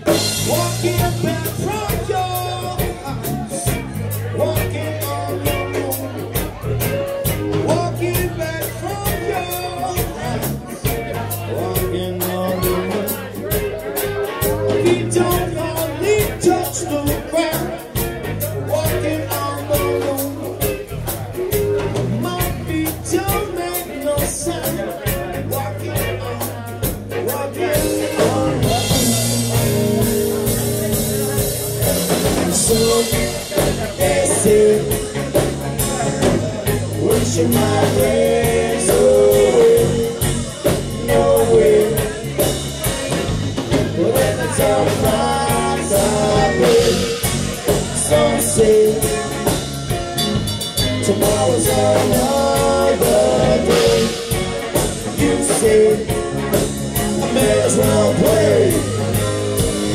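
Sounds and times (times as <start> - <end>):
live band playing reggae rock: 0.0 - 59.9.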